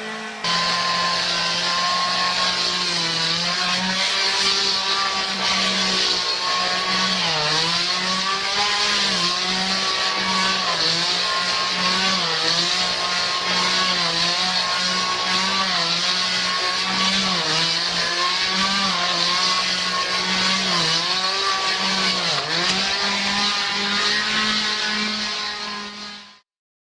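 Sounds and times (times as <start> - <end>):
chainsaw cutting branches: 0.0 - 26.2.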